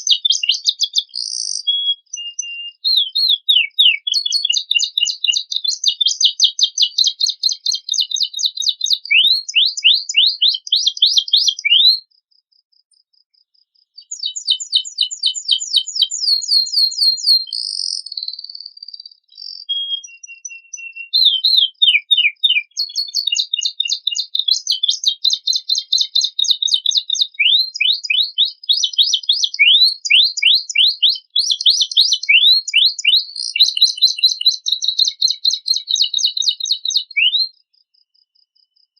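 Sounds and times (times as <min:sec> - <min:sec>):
canary singing trills: 0:00.0 - 0:12.1, 0:13.9 - 0:37.7.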